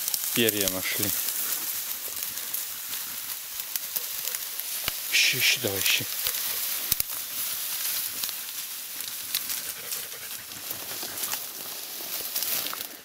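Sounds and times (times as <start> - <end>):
dry grass rustling and snapping: 0.0 - 13.0.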